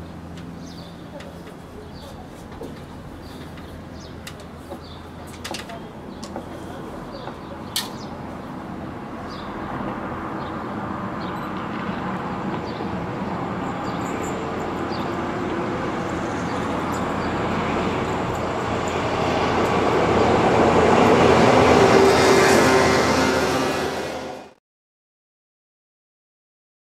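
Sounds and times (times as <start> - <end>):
locomotive passing: 0.0 - 24.6.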